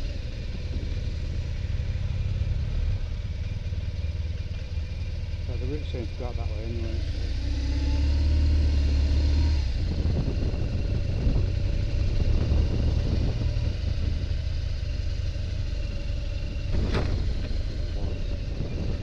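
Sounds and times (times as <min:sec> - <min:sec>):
motorcycle engine rumbling: 0:00.0 - 0:07.3, 0:09.7 - 0:19.0
passing motorcycle engine: 0:00.0 - 0:19.0.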